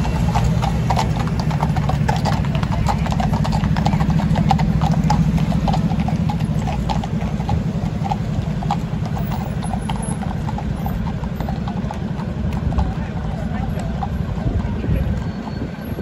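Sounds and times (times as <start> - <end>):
horse hooves clip-clopping on tarmac: 0.0 - 16.0.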